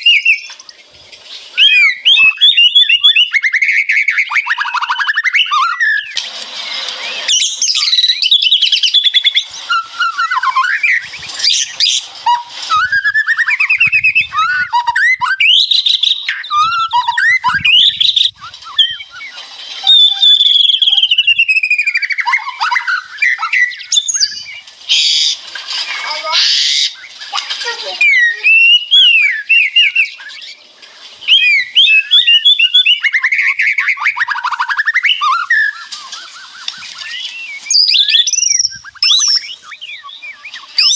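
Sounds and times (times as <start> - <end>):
bird crackling rattles: 0.0 - 14.0, 15.3 - 40.9
bird whistled song: 0.0 - 40.9.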